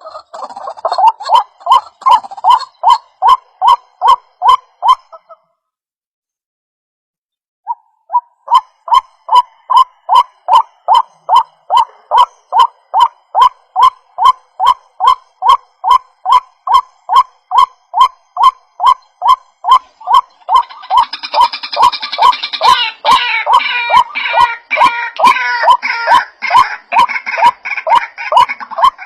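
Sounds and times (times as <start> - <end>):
dense bird chatter: 0.0 - 5.3, 8.5 - 29.0
waterhen calling: 0.0 - 5.4, 7.7 - 29.0.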